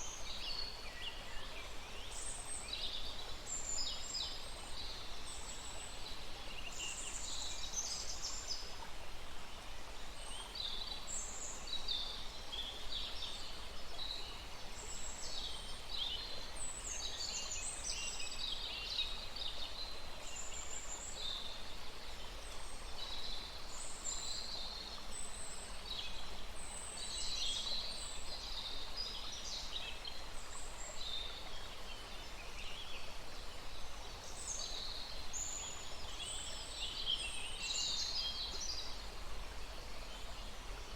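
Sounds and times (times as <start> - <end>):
flowing stream water: 0.0 - 40.9.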